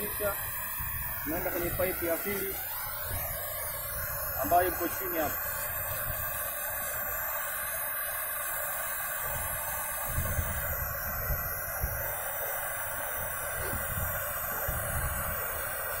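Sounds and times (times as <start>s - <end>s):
welding torch flame hissing: 0.0s - 16.0s.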